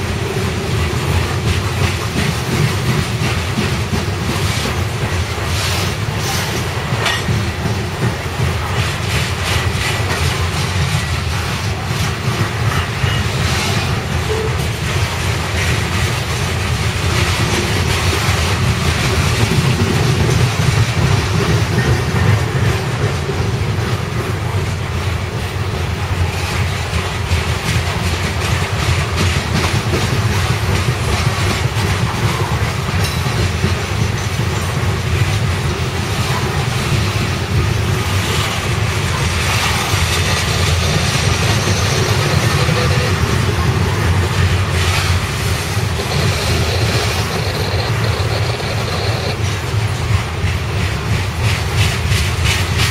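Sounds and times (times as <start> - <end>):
rapid wheel clicks on rails: 0.0 - 52.9
train cars rumbling past: 0.0 - 52.9.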